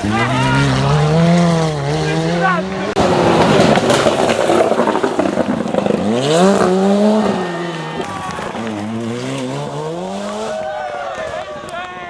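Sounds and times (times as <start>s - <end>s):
rally car engine revving: 0.0s - 11.2s.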